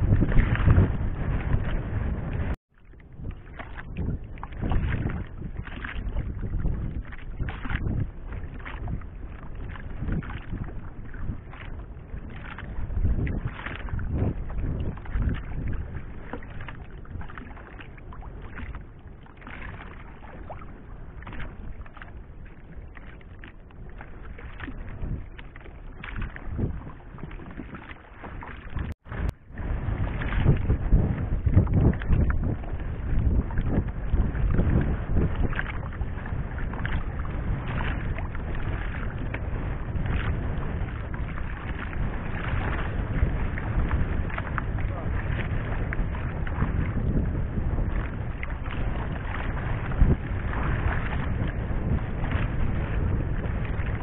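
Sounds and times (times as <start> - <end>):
knocks or splashes: 0.0 - 47.2
water lapping around boat: 0.0 - 54.0
wind buffeting microphone: 0.0 - 54.0.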